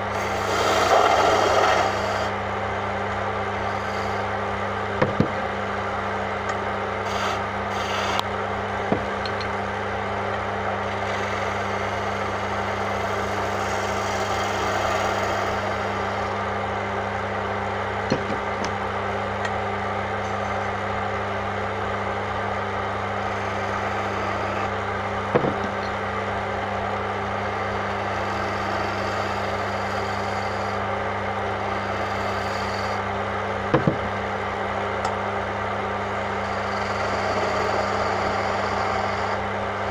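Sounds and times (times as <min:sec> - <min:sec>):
chisel cutting spinning wood: 0:00.0 - 0:16.8, 0:17.8 - 0:19.6, 0:21.8 - 0:39.9
wood lathe motor hum: 0:00.0 - 0:39.9.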